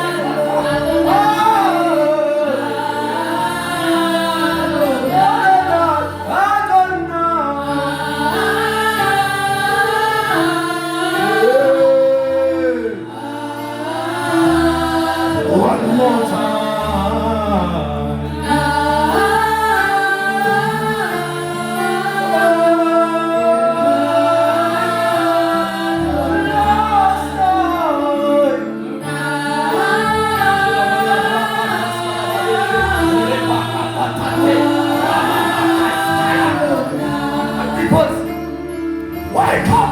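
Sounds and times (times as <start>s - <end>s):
held backing chords: 0.0s - 39.9s
voices singing gospel song: 0.0s - 39.9s.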